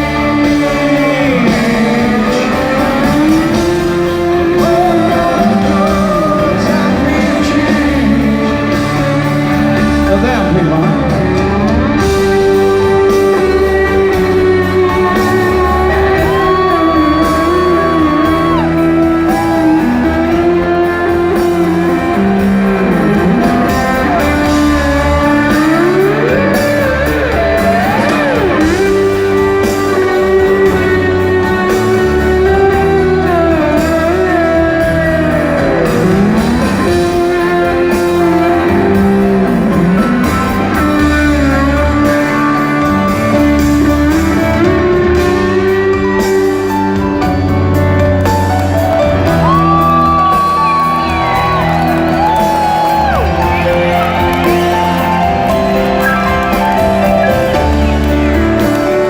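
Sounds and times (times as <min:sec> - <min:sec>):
live rock band playing: 0:00.0 - 0:59.0
person singing: 0:00.0 - 0:59.0
sliding lead guitar line: 0:00.0 - 0:59.0.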